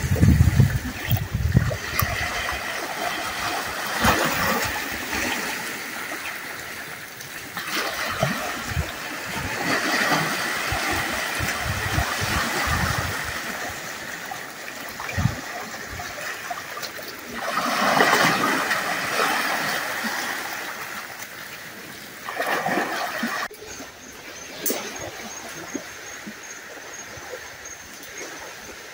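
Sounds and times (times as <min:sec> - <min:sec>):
water splashing: 0:00.0 - 0:28.9.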